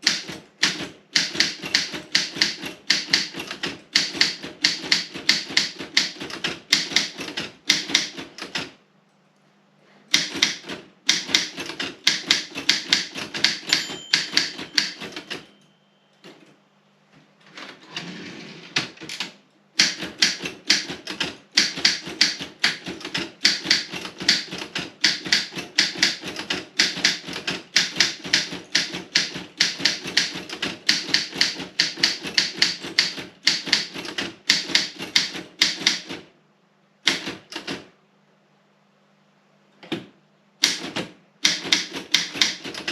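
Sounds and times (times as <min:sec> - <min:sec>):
typewriter rasping: 0:00.0 - 0:08.7, 0:10.1 - 0:15.6, 0:17.6 - 0:36.2, 0:37.1 - 0:37.8, 0:40.6 - 0:42.9
typewriter keystrokes: 0:00.0 - 0:08.8, 0:10.1 - 0:15.5, 0:18.8 - 0:36.3, 0:37.0 - 0:37.9, 0:39.8 - 0:42.9.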